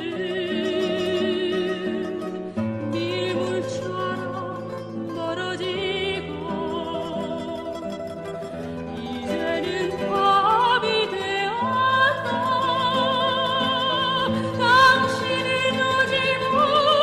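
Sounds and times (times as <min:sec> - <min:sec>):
operatic soprano singing: 0:00.0 - 0:17.0
plucked-string accompaniment: 0:00.0 - 0:17.0.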